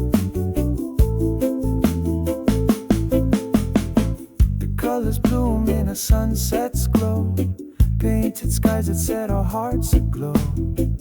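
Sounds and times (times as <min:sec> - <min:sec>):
reggae song: 0:00.0 - 0:11.0.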